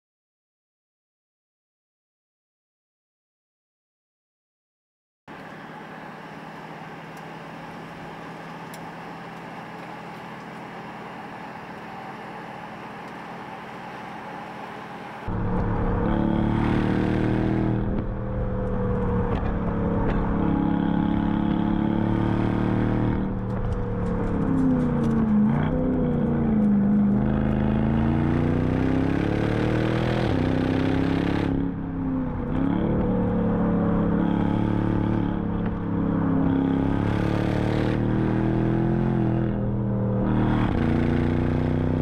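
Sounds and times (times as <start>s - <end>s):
car engine running: 5.3s - 42.0s.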